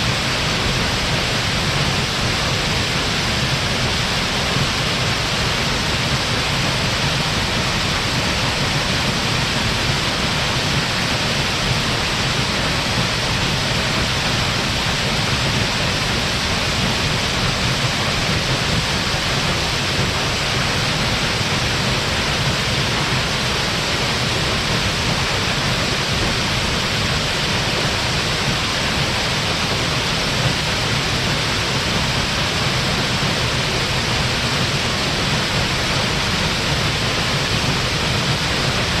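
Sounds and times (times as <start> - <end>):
waterfall roaring: 0.0 - 39.0.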